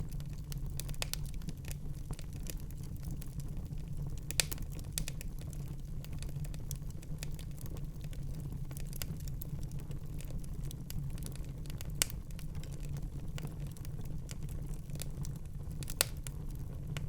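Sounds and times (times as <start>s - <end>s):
low rumble of flames: 0.0s - 17.0s
wood fire popping and snapping: 0.0s - 17.0s.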